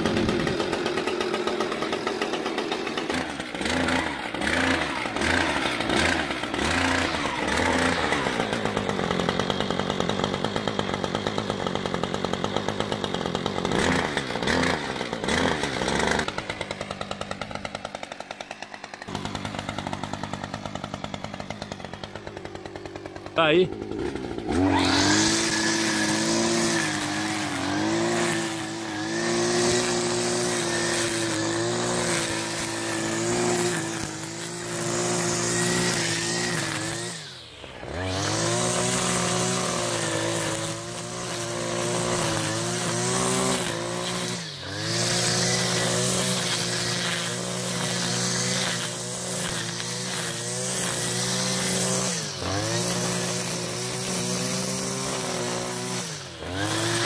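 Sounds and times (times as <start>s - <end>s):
brush cutter engine revving: 0.0s - 57.0s.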